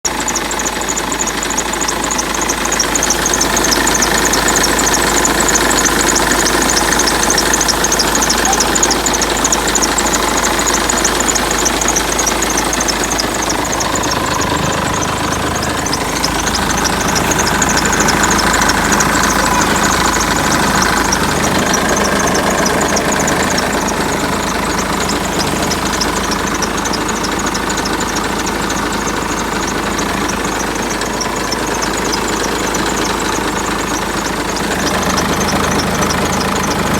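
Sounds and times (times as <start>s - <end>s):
diesel engine running: 0.0s - 36.9s
engine whistle: 0.0s - 36.9s
fast engine ticking: 0.0s - 36.9s.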